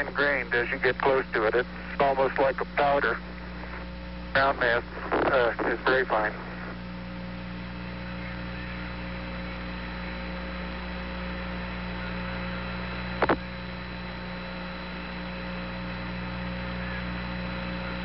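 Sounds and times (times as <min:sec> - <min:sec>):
radio hum and hiss: 0:00.0 - 0:18.0.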